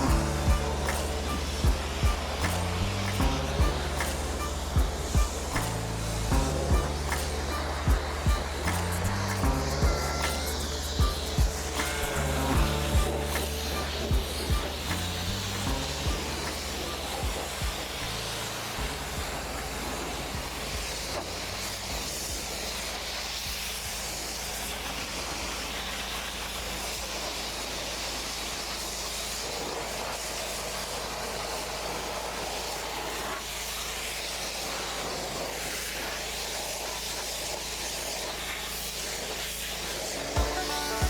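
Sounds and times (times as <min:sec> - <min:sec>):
pressure washer spraying: 0:00.0 - 0:41.0.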